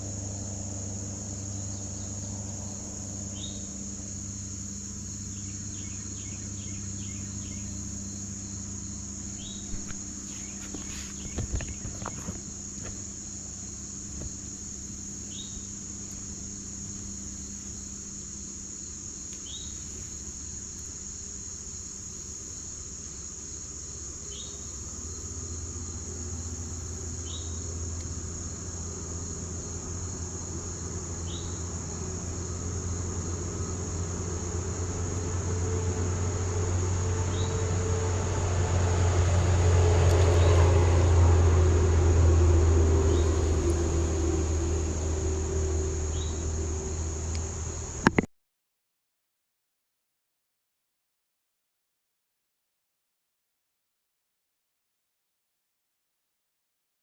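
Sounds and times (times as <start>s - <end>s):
insects trilling: 0.0s - 48.3s
low hum: 0.0s - 48.3s.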